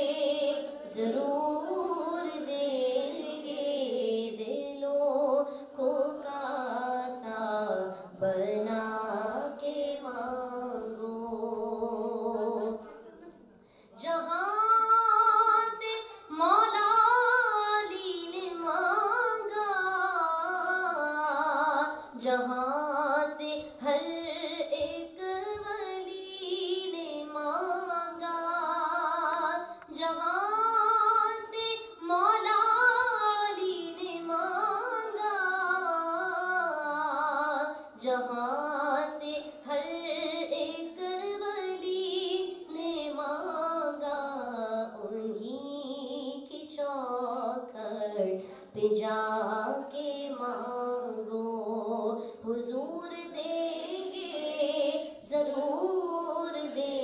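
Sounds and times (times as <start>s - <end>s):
woman singing into a microphone: 0.0s - 13.2s, 13.9s - 57.0s.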